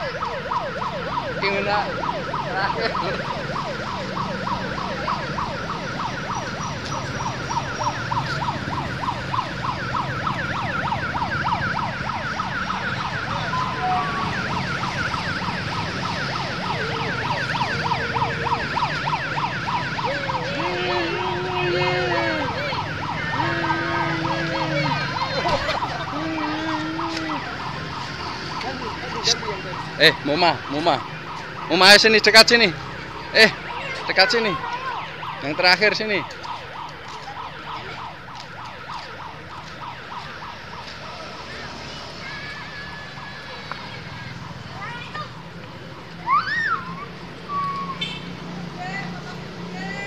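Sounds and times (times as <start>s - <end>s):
siren yelping: 0.0s - 48.2s
street noise: 0.0s - 50.0s.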